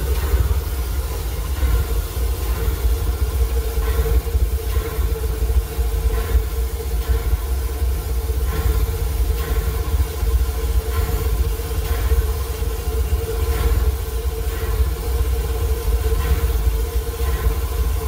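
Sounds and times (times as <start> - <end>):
steam engine machinery hum: 0.0 - 18.0
steam locomotive rumble: 0.0 - 18.0.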